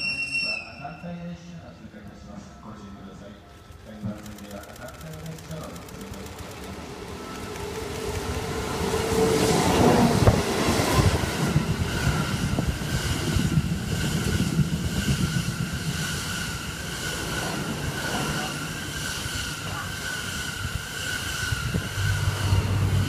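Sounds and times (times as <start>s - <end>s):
train rushing past: 0.0s - 23.0s.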